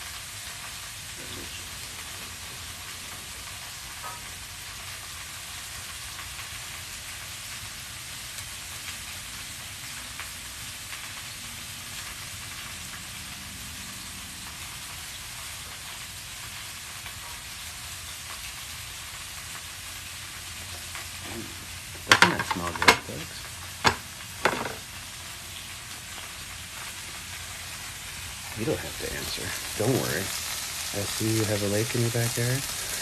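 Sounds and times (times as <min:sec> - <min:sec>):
meat sizzling on a grill: 0:00.0 - 0:33.0.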